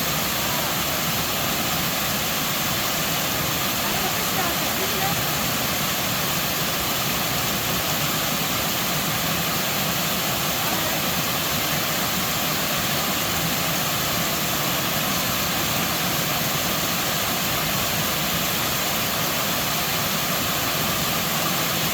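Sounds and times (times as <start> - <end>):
waterfall roaring: 0.0 - 21.9.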